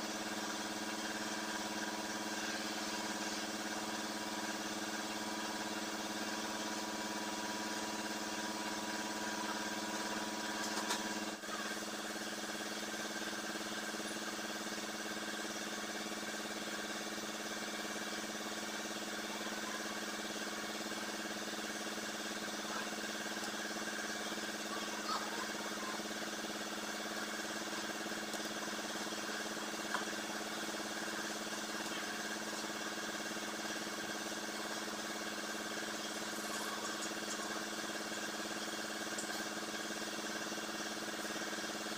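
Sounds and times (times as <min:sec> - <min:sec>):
engine-like hum: 0:00.0 - 0:41.9.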